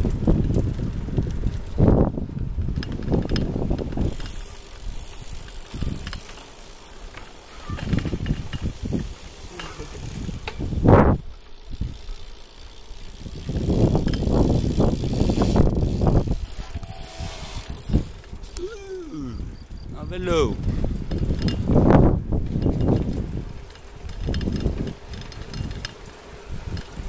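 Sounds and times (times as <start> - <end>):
wind buffeting the microphone: 0.0 - 6.3, 7.6 - 27.0
bicycles rolling on asphalt: 0.0 - 27.0.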